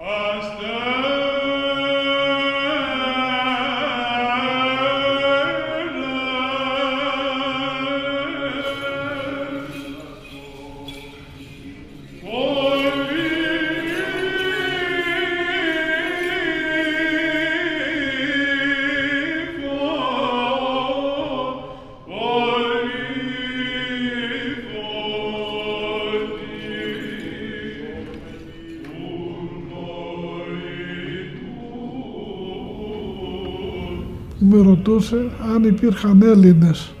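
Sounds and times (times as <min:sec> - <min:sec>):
men singing liturgical chant: 0:00.0 - 0:36.8.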